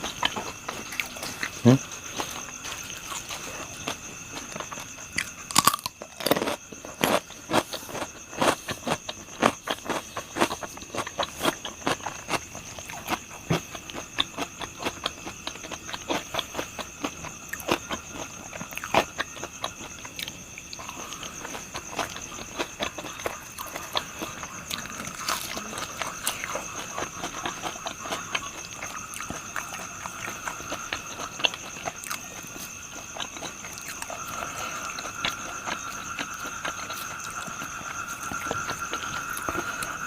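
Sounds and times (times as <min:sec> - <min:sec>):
crunchy chewing: 0:00.0 - 0:40.0.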